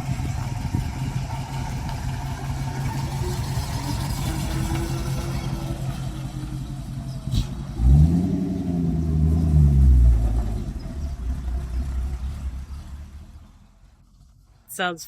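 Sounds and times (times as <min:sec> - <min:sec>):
truck engine revving: 0:00.0 - 0:13.5.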